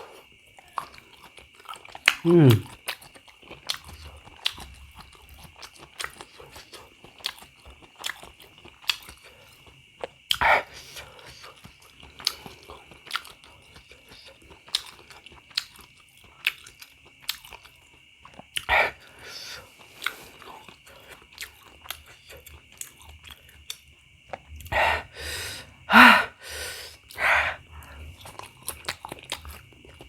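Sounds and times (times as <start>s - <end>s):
close chewing and biting: 0.0s - 24.8s, 27.0s - 30.0s.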